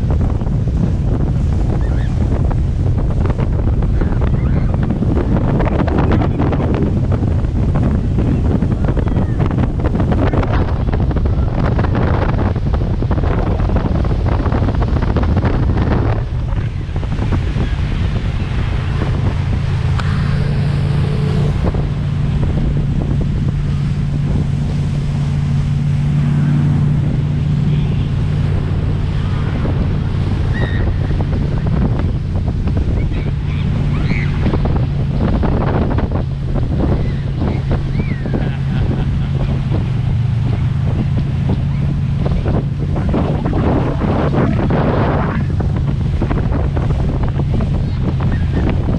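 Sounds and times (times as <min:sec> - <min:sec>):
motorboat engine running: 0:00.0 - 0:48.9
water rushing and splashing: 0:00.0 - 0:48.9
wind buffeting microphone: 0:00.0 - 0:48.9.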